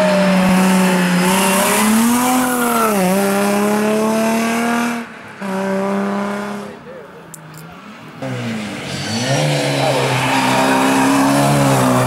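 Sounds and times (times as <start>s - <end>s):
rally car engine at high revs: 0.0s - 6.8s, 8.1s - 12.0s.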